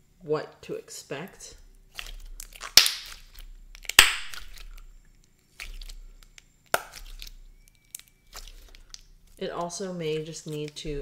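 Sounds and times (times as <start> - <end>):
slime popping and crackling: 1.8 - 11.0.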